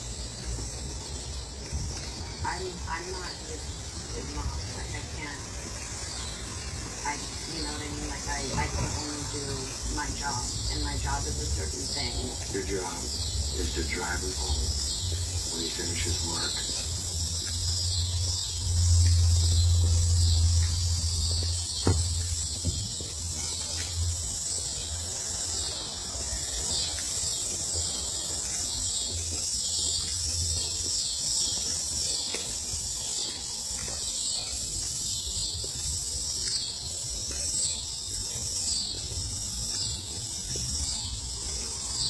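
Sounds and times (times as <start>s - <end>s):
insects chirping: 0.0s - 42.0s.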